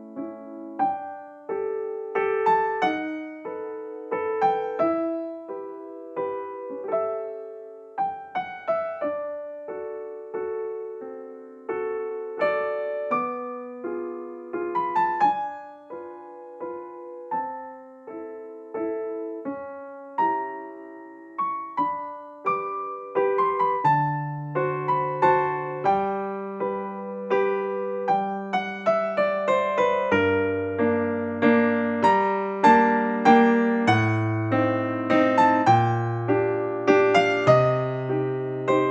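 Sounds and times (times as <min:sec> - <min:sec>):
gentle piano music: 0:00.0 - 0:38.9.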